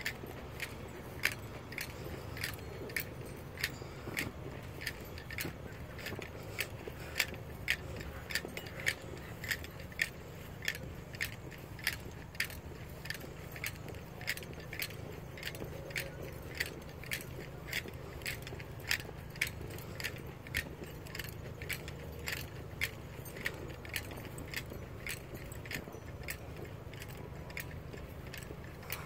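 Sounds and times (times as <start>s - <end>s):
footsteps with jingle: 0.0s - 29.0s.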